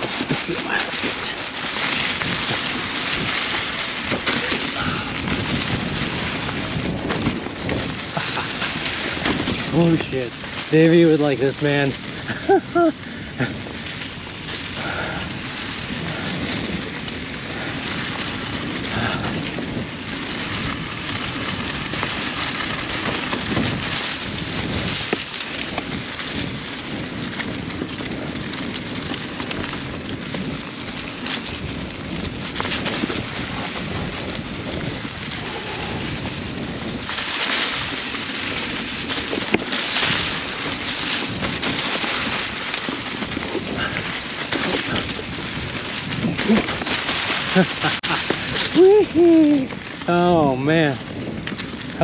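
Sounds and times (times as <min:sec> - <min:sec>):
bike tyres on dirt trail: 0:00.0 - 0:52.0
wind buffeting microphone: 0:00.0 - 0:52.0.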